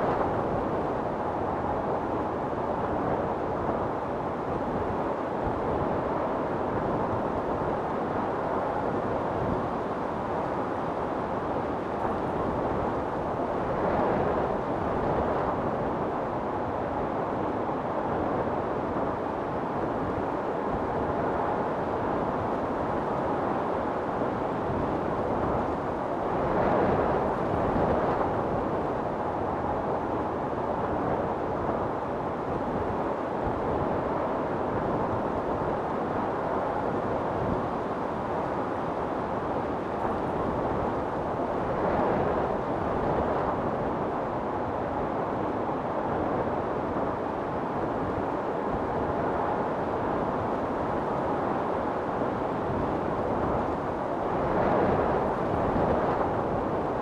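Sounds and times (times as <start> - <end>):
wind storm blowing: 0.0 - 57.0.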